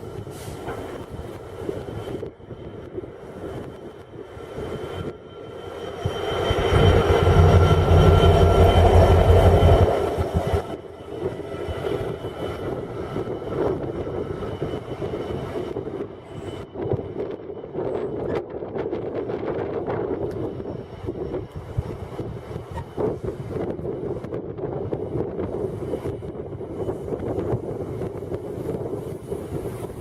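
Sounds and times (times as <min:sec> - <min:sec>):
train passing with low rumble: 0:00.0 - 0:30.0.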